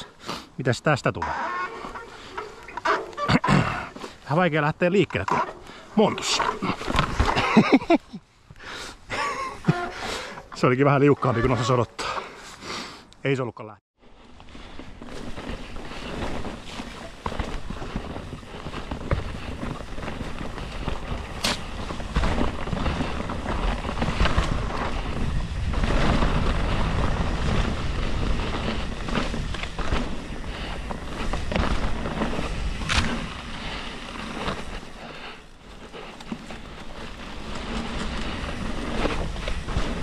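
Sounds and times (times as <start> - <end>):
bike tyres rumbling over rough ground: 0.0 - 12.5, 14.0 - 40.0.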